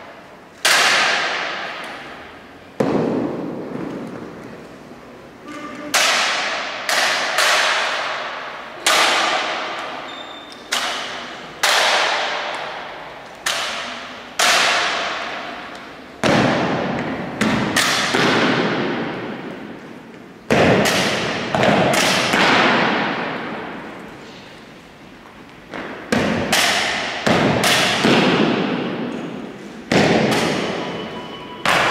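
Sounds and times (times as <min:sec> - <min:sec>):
rifles slapped and grounded: 0:00.6 - 0:04.2, 0:05.9 - 0:10.0, 0:10.6 - 0:19.6, 0:20.5 - 0:23.9, 0:25.7 - 0:30.9, 0:31.6 - 0:31.9.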